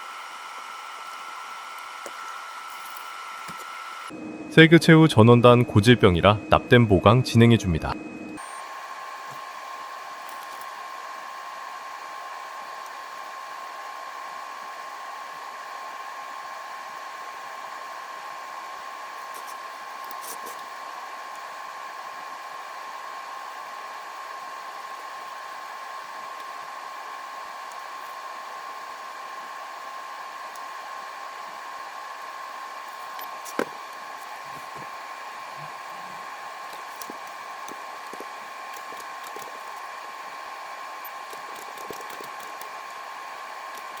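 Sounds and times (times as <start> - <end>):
electric fan running: 0.0 - 6.4, 7.0 - 44.0.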